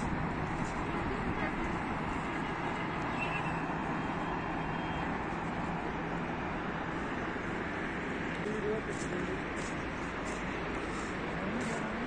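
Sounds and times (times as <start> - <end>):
constant rushing hum: 0.0 - 12.0.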